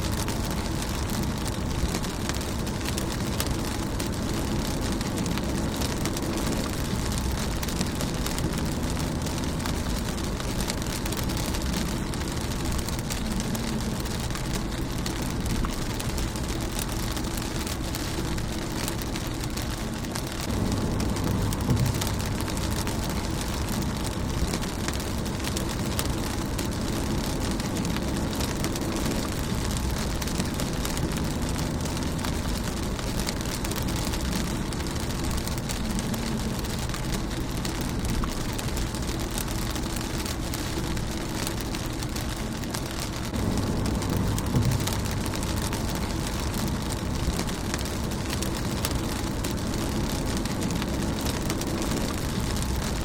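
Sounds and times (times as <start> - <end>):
low rumble: 0.0 - 53.0
rain on car windshield: 0.0 - 53.0.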